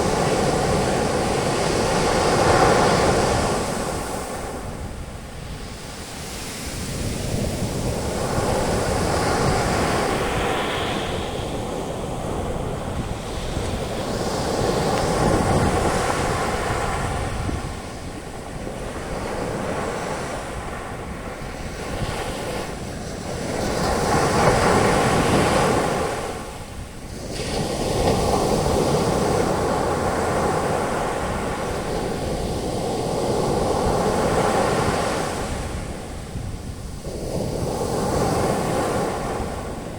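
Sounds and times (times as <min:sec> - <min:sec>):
ocean waves breaking: 0:00.0 - 0:36.0
wind on microphone: 0:00.0 - 0:39.9.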